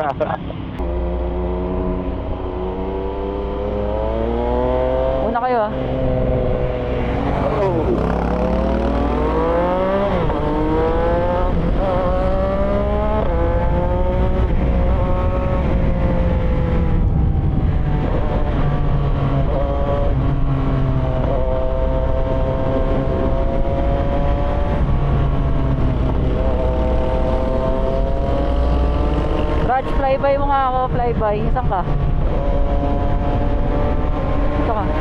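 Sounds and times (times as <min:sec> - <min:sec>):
motorcycle engine accelerating: 0:00.0 - 0:35.0
wind rushing over microphone: 0:00.0 - 0:35.0.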